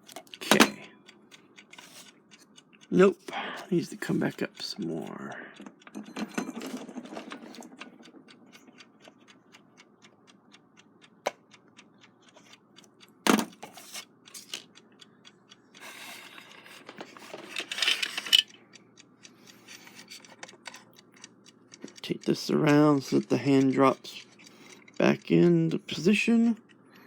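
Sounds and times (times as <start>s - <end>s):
alarm clock ticking: 0.0s - 27.0s.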